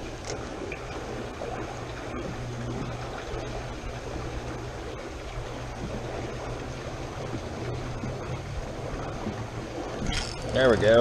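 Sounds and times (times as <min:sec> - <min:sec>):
flowing water rushing: 0:00.0 - 0:11.0
low rumble: 0:00.0 - 0:11.0.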